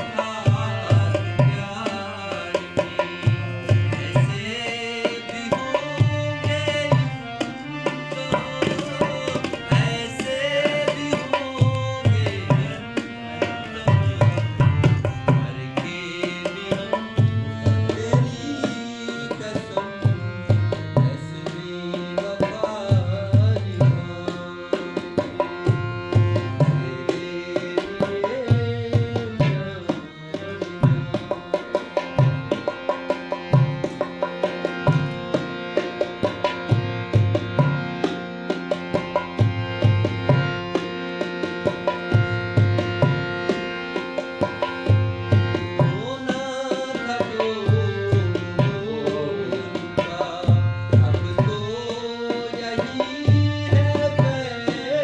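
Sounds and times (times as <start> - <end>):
hand drum rhythm: 0.0 - 55.0
harmonium melody: 0.0 - 55.0.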